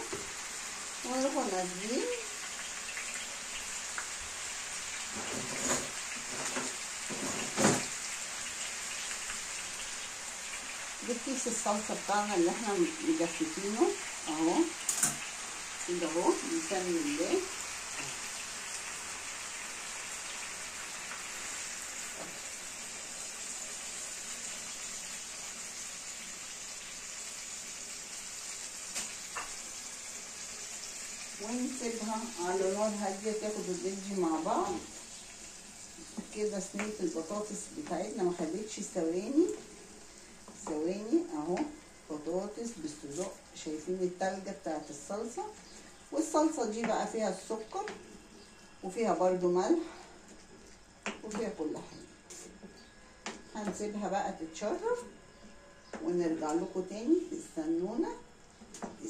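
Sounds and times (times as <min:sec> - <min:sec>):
food sizzling in a frying pan: 0:00.0 - 0:59.0.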